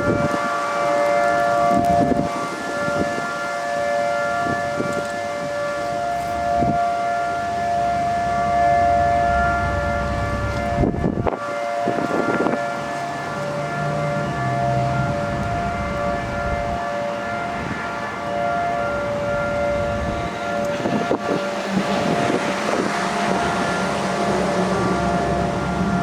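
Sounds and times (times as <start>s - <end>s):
warning siren wailing: 0.0s - 26.0s.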